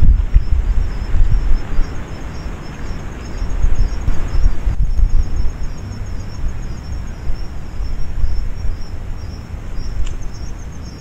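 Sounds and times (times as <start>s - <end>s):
insect calling in rapid pulses: 0.0s - 11.0s
wind rumble on microphone: 0.0s - 11.0s.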